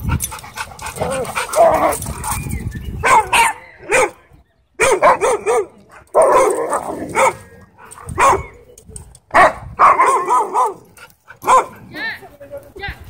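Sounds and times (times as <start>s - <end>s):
dogs barking and yipping: 0.0s - 8.7s, 9.3s - 12.2s.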